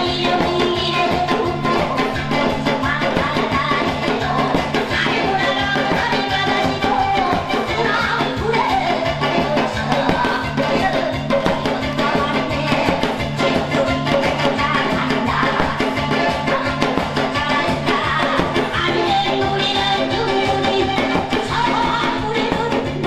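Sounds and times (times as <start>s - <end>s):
fast drum beat: 0.0s - 23.0s
person singing: 0.0s - 23.0s
upbeat folk music: 0.0s - 23.0s.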